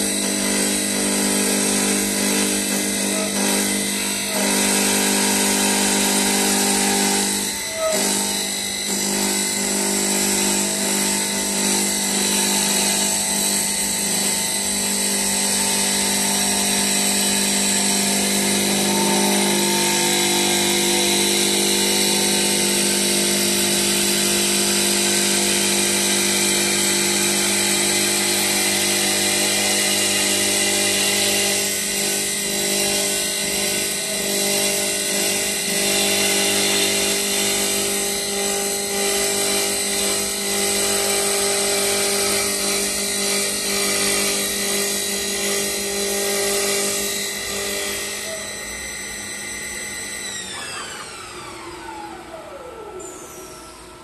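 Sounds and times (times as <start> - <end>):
wood lathe whining: 0.0 - 54.0.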